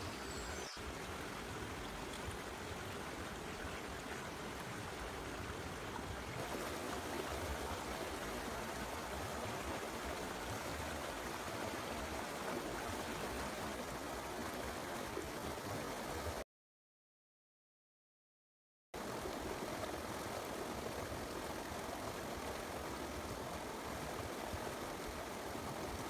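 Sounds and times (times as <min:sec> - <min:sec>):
stream flowing over rocks: 0:00.8 - 0:16.4, 0:19.0 - 0:26.0.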